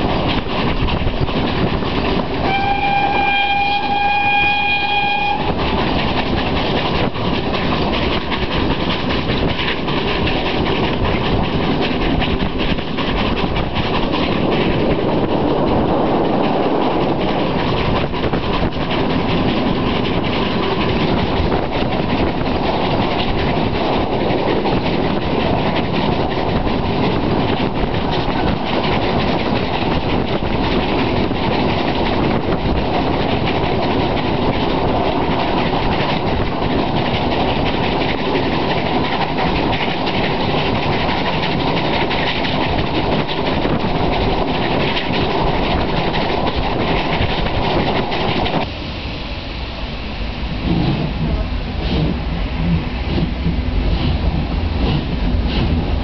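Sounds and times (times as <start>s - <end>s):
train wheel and rail noise: 0.0s - 56.0s
wheels clacking over rail joints: 0.0s - 56.0s.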